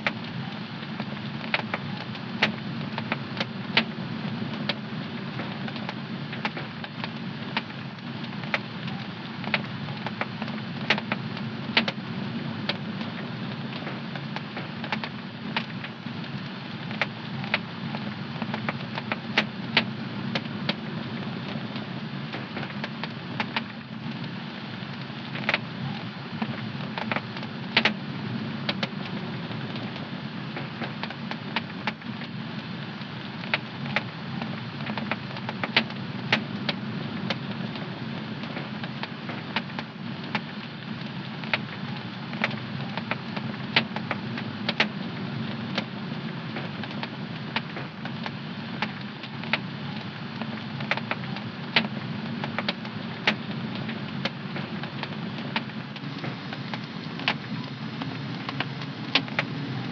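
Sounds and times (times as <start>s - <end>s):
wood fire crackling and popping: 0.0s - 59.9s
flames hissing: 0.2s - 59.9s.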